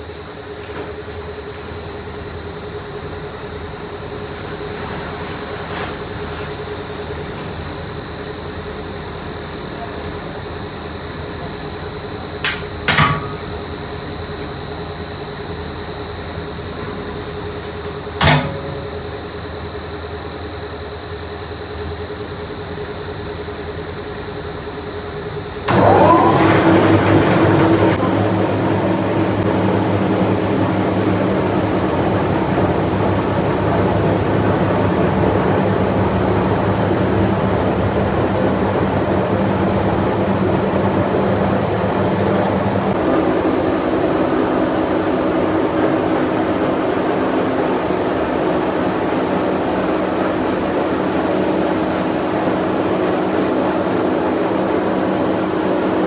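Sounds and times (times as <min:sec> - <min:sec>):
loud machinery with low hum: 0:00.0 - 0:56.0
machinery high whine: 0:00.0 - 0:56.0.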